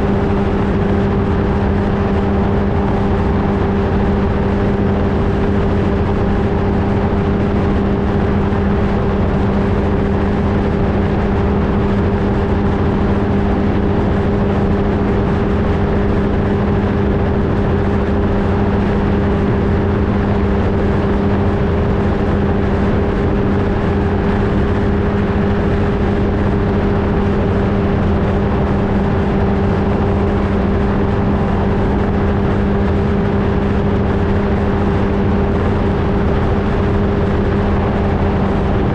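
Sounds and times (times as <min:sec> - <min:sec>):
aircraft engine and propeller: 0:00.0 - 0:38.9
wind rumble on microphone: 0:00.0 - 0:38.9.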